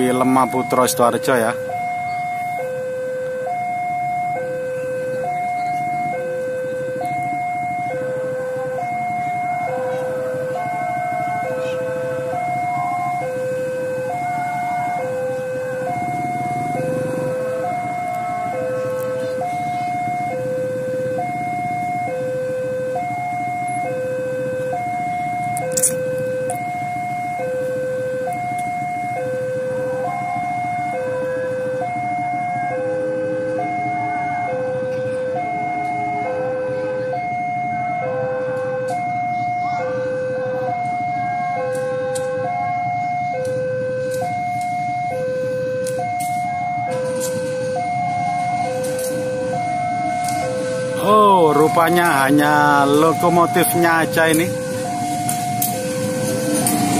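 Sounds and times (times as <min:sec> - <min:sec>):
level crossing two-tone alarm: 0:00.0 - 0:56.9
motorcycle engines idling: 0:00.0 - 0:56.9.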